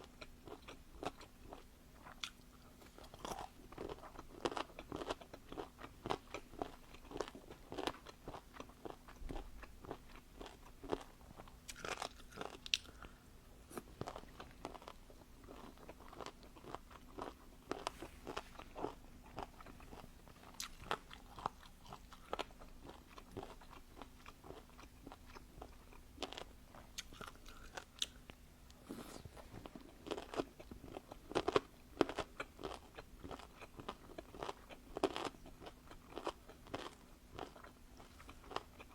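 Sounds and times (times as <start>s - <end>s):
crunching and chewing food: 0.0s - 38.9s
faint steady hum: 0.0s - 38.9s.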